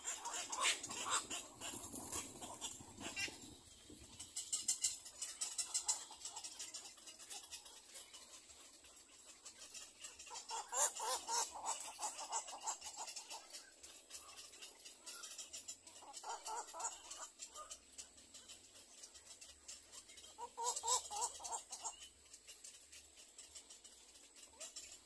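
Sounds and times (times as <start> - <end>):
birds wavering calls: 0.0 - 25.0.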